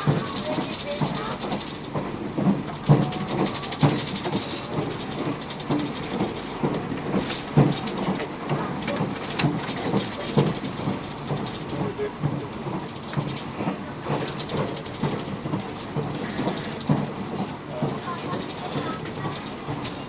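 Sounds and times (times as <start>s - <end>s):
knocks and rattles: 0.0s - 20.0s
train wheels rumbling on rails: 0.0s - 20.0s.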